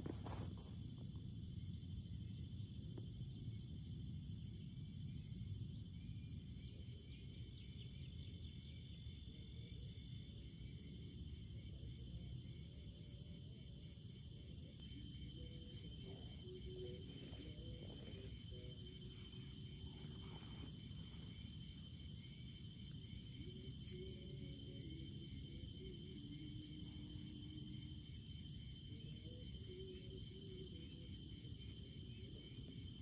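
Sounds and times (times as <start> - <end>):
crickets trilling: 0.0 - 33.0
low outdoor hum: 0.0 - 33.0.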